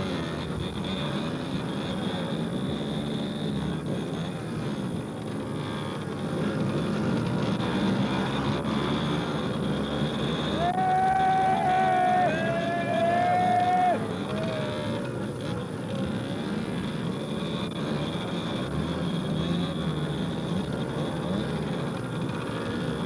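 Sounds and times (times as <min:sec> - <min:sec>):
motorbike engines buzzing and revving: 0:00.0 - 0:23.0.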